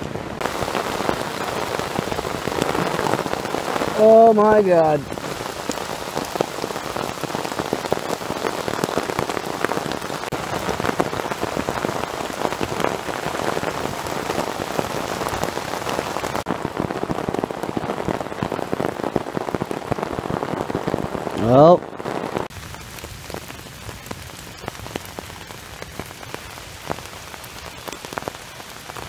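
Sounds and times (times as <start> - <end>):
heavy rain on a tarp shelter: 0.0 - 29.0.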